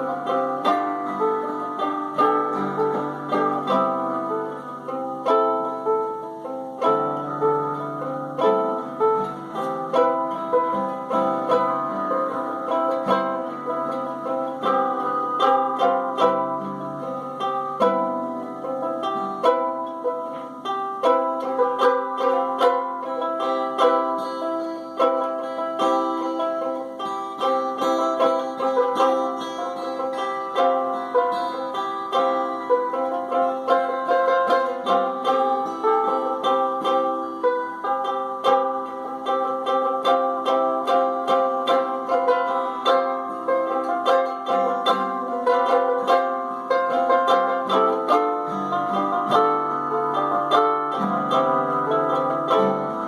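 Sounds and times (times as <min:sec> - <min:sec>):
plucked string instrument melody: 0:00.0 - 0:53.0.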